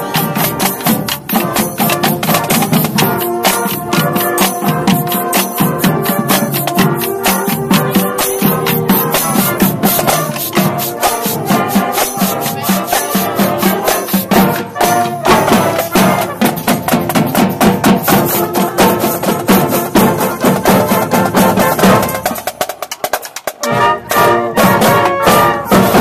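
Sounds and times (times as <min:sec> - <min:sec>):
fast drum beat: 0:00.0 - 0:23.7, 0:24.5 - 0:26.0
band music with brass: 0:00.0 - 0:26.0.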